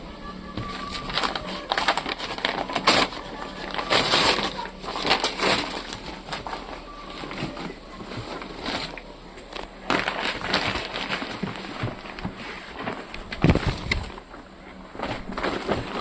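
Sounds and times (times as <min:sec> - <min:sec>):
loud packaging crackles: 0:00.2 - 0:16.0
packaging crinkling and rustling: 0:00.5 - 0:16.0.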